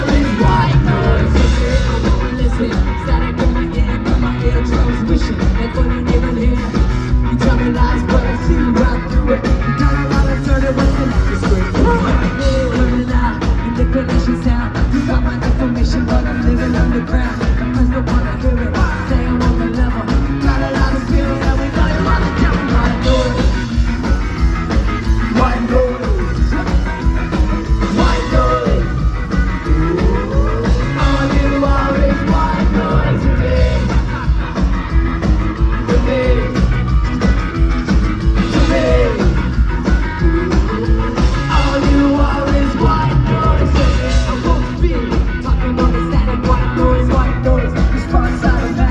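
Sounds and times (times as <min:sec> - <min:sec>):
person singing: 0:00.0 - 0:24.2, 0:25.1 - 0:37.0, 0:38.3 - 0:48.9
ska-punk band playing live: 0:00.0 - 0:48.9.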